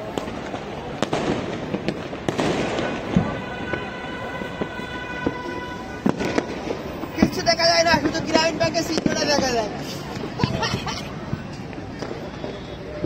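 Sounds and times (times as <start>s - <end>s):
firecracker bangs: 0.0s - 10.6s
fireworks crackling: 0.0s - 13.0s.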